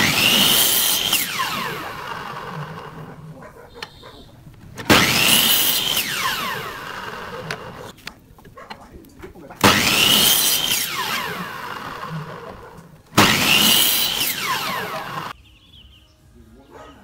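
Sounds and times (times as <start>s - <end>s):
blade chopping wooden block: 0.0s - 3.2s, 3.9s - 8.8s, 9.6s - 15.3s
miter saw whining: 0.0s - 8.0s, 9.6s - 15.3s.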